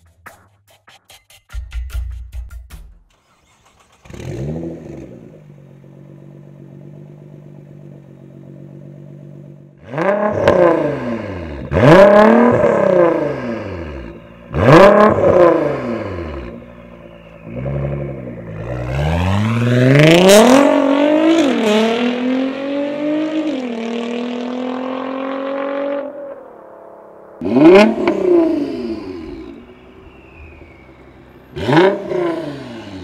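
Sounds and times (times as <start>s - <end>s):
car engine idling and revving: 3.1s - 33.0s.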